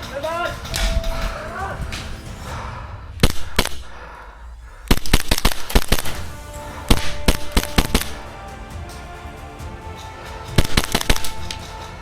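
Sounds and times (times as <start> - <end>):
faint background music: 0.0 - 4.0, 4.9 - 12.0.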